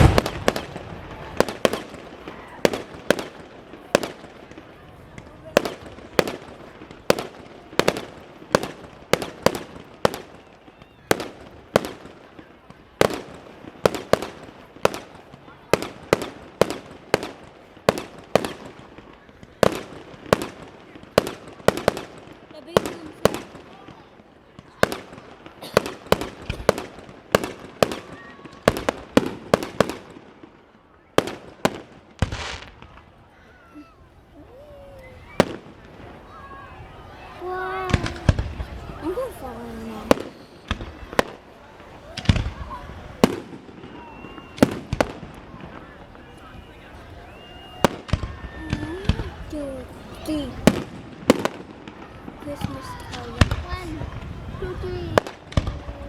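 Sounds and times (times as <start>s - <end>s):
fireworks bangs echoing: 0.0s - 56.0s.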